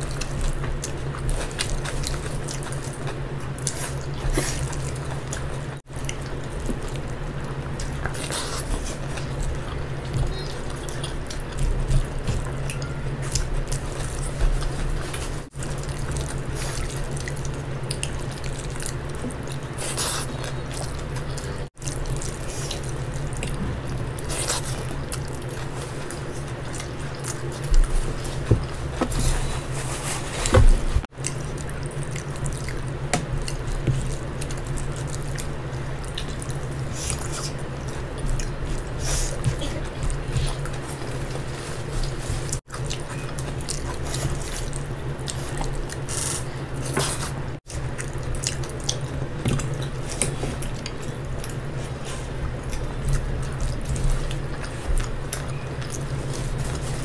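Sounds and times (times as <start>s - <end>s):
steady low hum: 0.0s - 57.0s
wet chewing: 0.0s - 57.0s.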